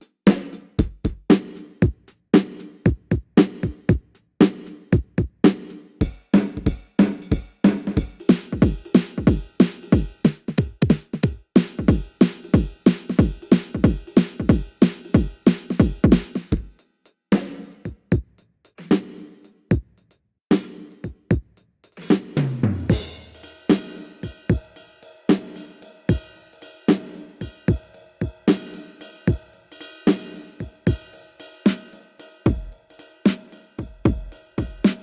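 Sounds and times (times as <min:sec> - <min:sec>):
drum kit beat: 0:00.0 - 0:35.0.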